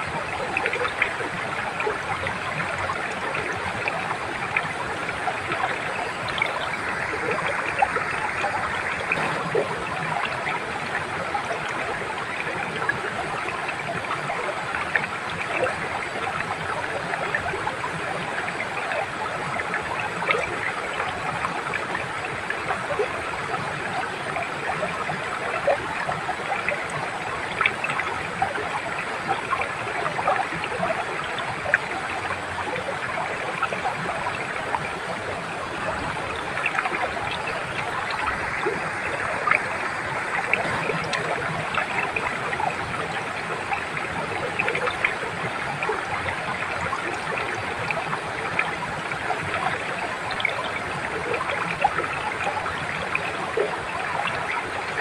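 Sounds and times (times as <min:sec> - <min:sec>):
small water splashes: 0:00.0 - 0:55.0
stream water rushing over stones: 0:00.0 - 0:55.0.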